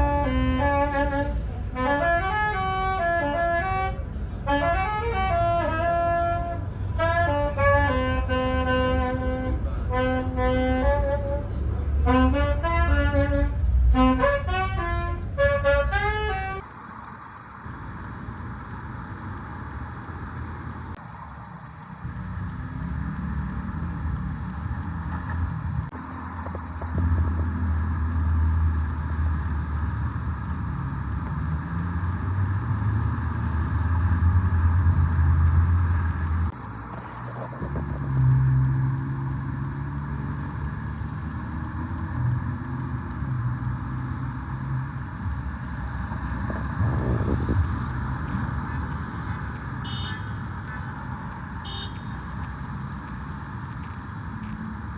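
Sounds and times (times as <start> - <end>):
loud low engine rumble: 0.0 - 54.9
vehicles passing: 0.0 - 54.9.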